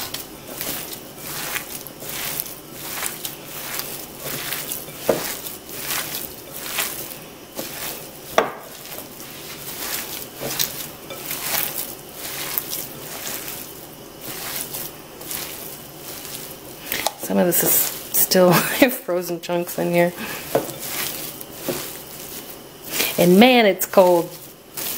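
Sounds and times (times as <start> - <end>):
hand squishing raw meat: 0.0 - 18.2, 20.1 - 23.2, 24.0 - 24.9.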